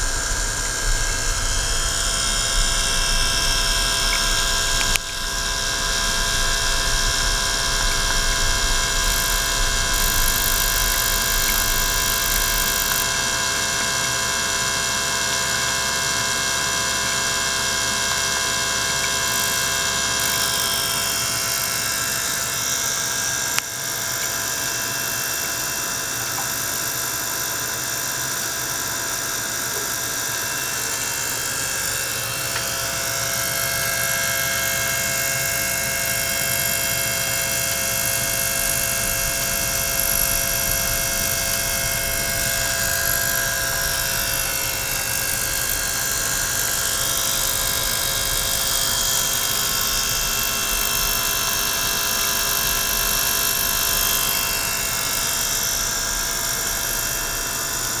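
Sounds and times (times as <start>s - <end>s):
pump motor hum: 0.0s - 58.0s.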